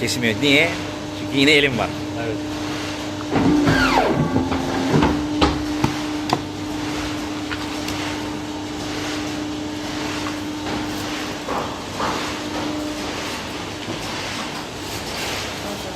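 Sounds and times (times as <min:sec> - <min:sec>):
paper cutter machine hum: 0:00.0 - 0:15.9.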